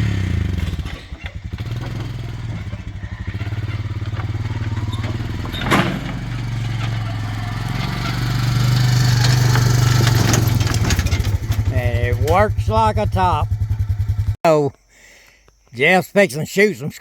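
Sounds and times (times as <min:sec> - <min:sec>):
atv engine running: 0:00.0 - 0:14.4.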